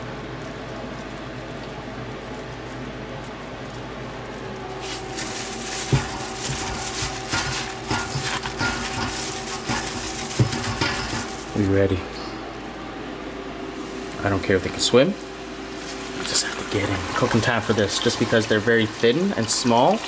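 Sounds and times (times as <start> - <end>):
low steady hum: 0.0 - 20.0
rustling and scrunching in flour: 0.3 - 12.4, 13.2 - 18.3.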